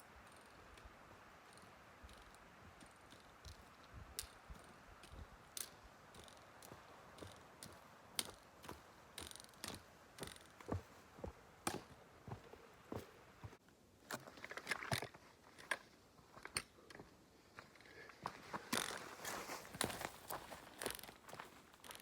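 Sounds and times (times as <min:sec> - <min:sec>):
footsteps on rocky trail: 0:00.0 - 0:13.6, 0:16.2 - 0:22.0.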